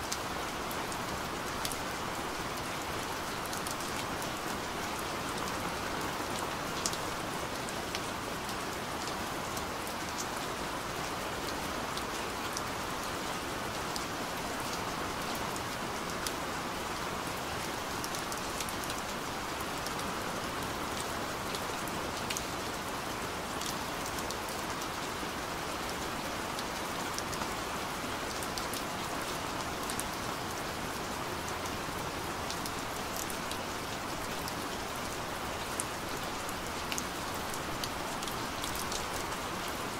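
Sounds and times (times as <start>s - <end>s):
rain-like hiss: 0.0s - 39.9s.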